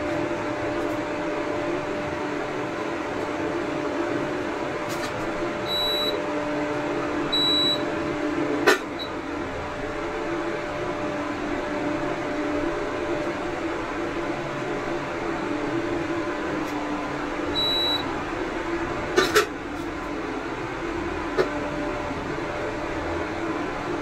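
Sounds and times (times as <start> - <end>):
cooling fan humming: 0.0 - 24.0.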